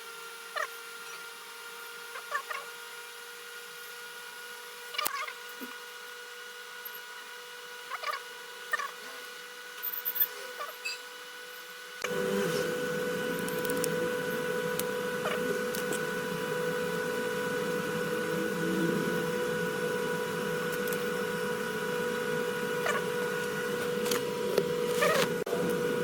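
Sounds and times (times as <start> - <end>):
electric machine whine: 0.0 - 26.0.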